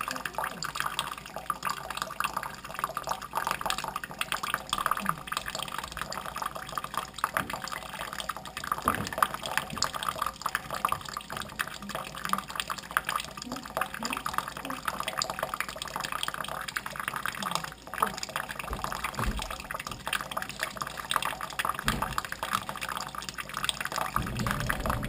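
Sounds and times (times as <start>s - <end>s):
faucet water splashing in sink: 0.0s - 25.0s.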